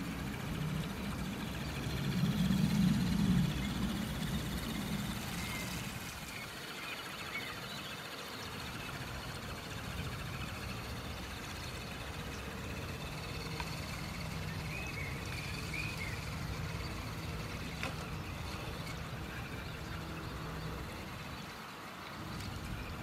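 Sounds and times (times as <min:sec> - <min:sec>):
toy truck motor humming: 0:00.0 - 0:23.0
wheels splashing in water: 0:00.0 - 0:23.0.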